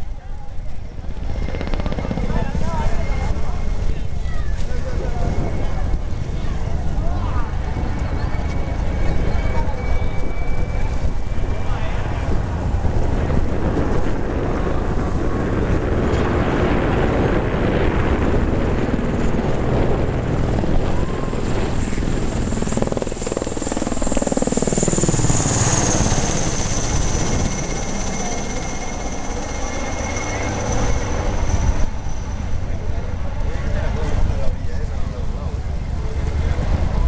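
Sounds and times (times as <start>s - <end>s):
helicopter rotor and engine noise: 0.0s - 37.0s
high turbine whine: 0.0s - 37.0s.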